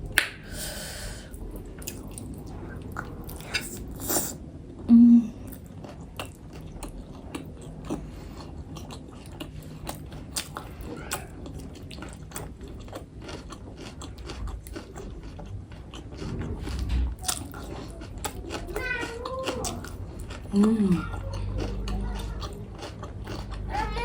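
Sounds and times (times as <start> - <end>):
chewing with wet mouth smacks: 1.3 - 4.3, 5.4 - 24.0.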